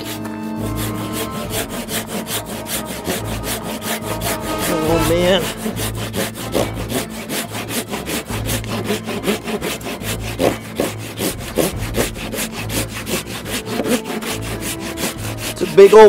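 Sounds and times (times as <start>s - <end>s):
hand saw cutting wood: 0.0s - 16.0s.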